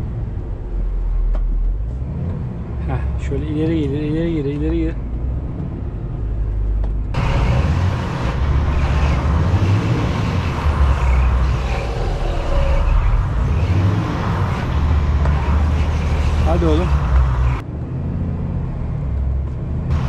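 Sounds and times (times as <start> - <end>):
truck diesel engine under load: 0.0 - 17.6.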